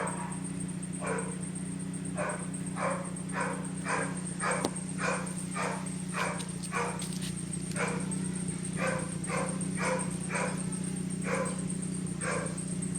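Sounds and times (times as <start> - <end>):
dog barking: 0.0 - 1.5, 2.1 - 7.1, 7.8 - 12.6
car engine running: 0.0 - 12.9.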